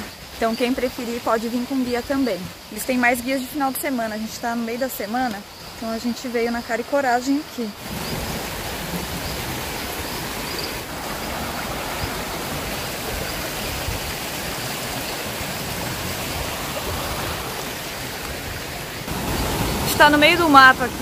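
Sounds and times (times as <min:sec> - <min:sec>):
river rushing over stones: 0:00.0 - 0:21.0.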